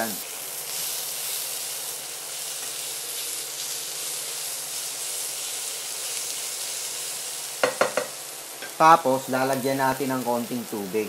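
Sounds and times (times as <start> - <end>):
vegetables sizzling in pan: 0.0 - 11.0.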